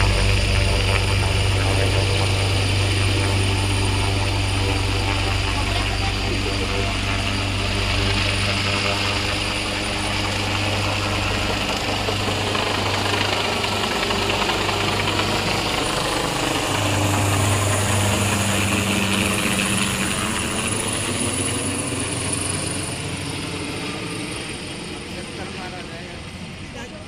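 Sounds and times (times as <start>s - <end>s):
helicopter rotor beating: 0.0s - 27.0s.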